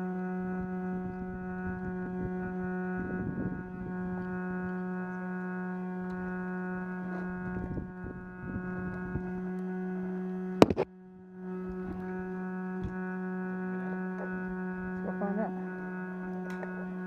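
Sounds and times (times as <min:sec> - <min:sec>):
droning hum: 0:00.0 - 0:17.0.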